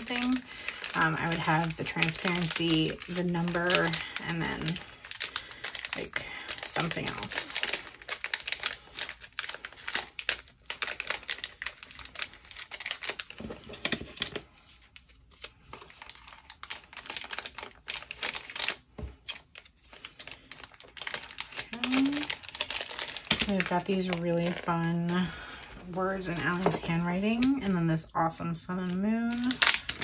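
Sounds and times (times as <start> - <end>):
plastic packets clicking and crinkling: 0.0 - 30.0.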